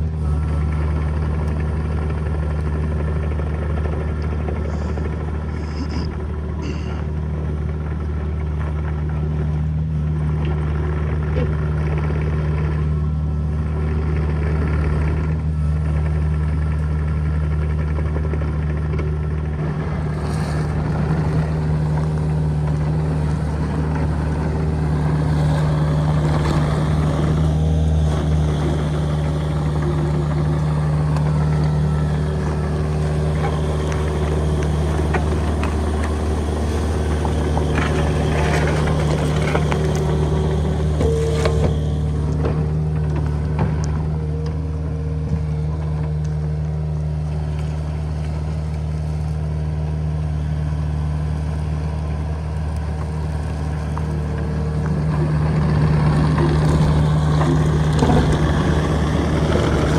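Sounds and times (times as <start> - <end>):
machine engine low hum: 0.0 - 59.9.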